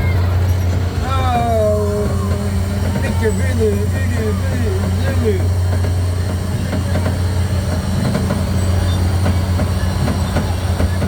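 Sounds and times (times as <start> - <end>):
ride machinery humming: 0.0 - 11.0.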